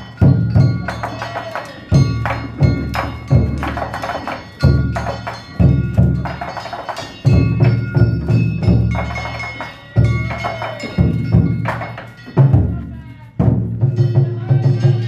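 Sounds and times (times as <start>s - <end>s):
hand gongs clanging: 0.0s - 15.0s
heavy taiko drum: 0.0s - 15.0s.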